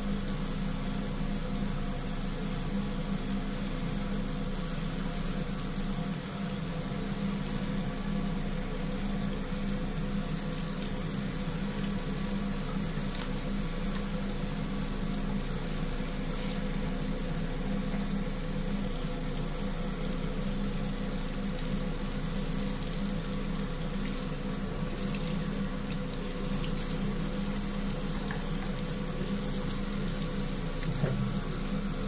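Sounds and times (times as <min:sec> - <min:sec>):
tap running into washbasin: 0:00.0 - 0:32.0.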